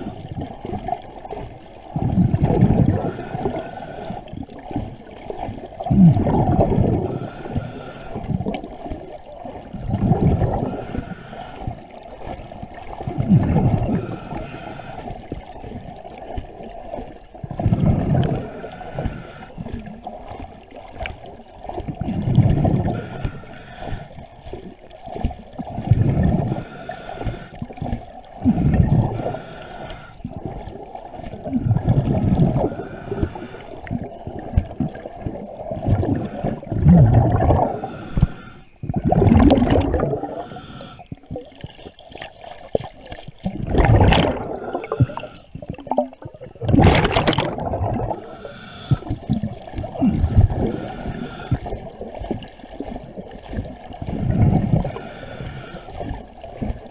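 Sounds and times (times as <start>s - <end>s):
bubbles gurgling underwater: 0.0s - 56.9s.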